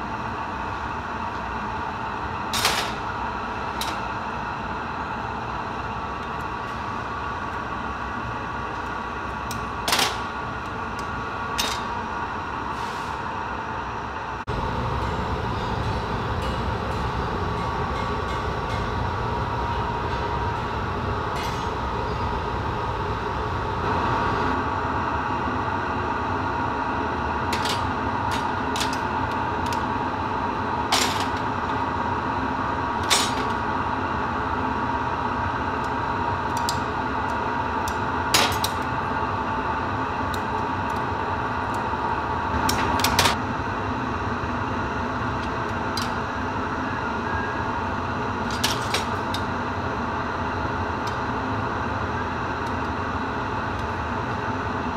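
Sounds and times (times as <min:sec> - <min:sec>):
furnace and gas burners roaring: 0:00.0 - 0:54.9.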